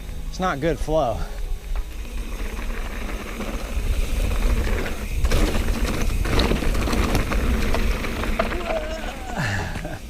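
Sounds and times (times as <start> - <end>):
bike rattling and clicking: 1.6 - 10.0.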